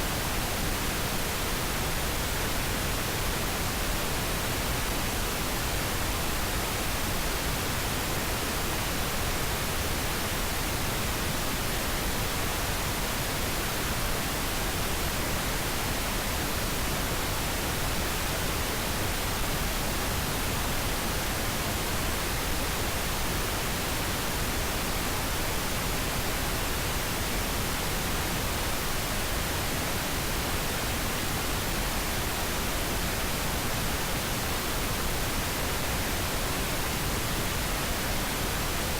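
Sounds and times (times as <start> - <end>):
pink noise hiss: 0.0 - 38.9.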